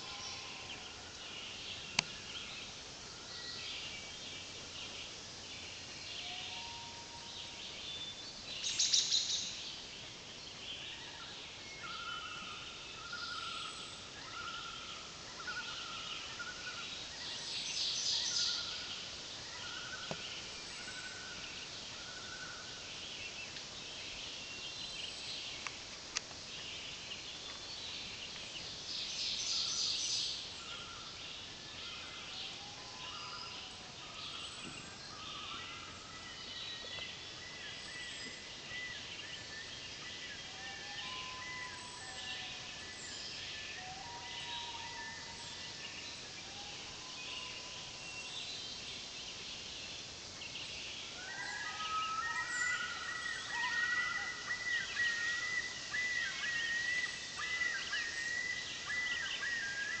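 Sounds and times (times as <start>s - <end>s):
songbirds chorus: 0.0s - 60.0s.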